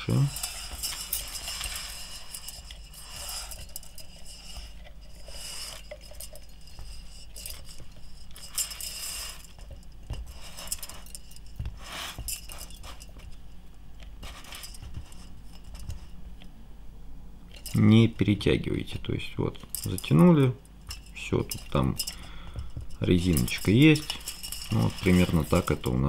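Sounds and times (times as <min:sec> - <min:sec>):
metallic scrapes and clinks: 0:00.0 - 0:16.2, 0:17.5 - 0:18.6, 0:19.6 - 0:26.0.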